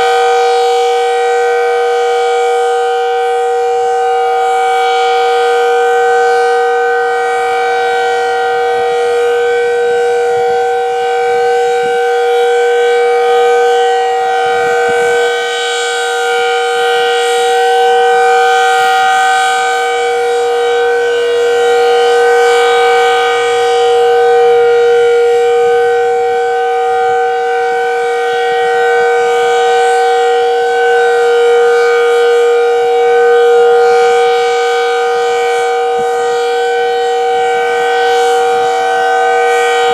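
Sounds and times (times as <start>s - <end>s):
steady two-tone warning siren: 0.0s - 39.9s.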